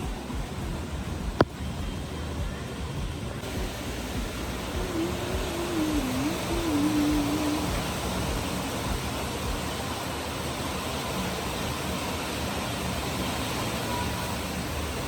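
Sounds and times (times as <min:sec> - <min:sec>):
wind and rain storm: 0:00.0 - 0:15.0.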